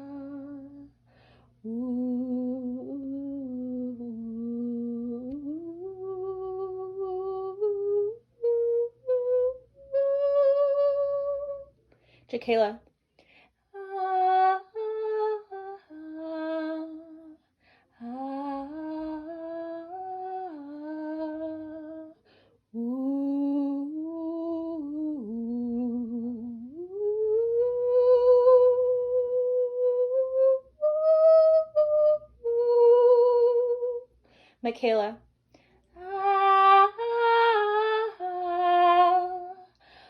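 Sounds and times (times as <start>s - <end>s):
girl singing wordless melody: 0.0s - 12.8s, 13.5s - 40.0s.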